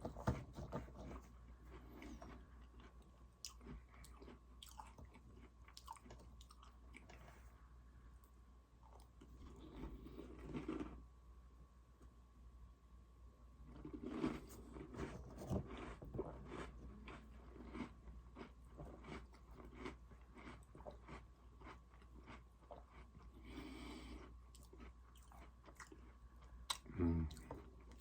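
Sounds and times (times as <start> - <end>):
cookie chewing crunches: 1.0 - 7.4, 8.8 - 11.0, 13.6 - 28.0.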